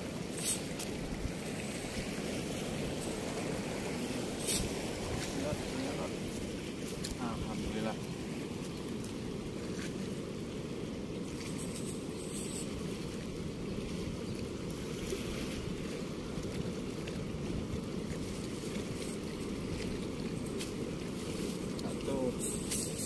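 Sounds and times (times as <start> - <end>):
floodwater rushing through sluice gate: 0.0 - 23.0.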